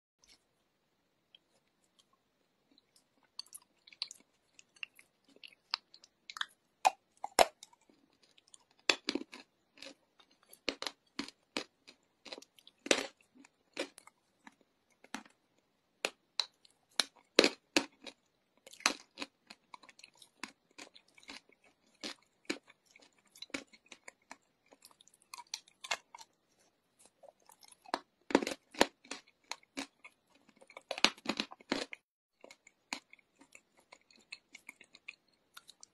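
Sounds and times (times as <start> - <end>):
chalk crunching while chewed: 1.4 - 15.4, 16.0 - 35.9.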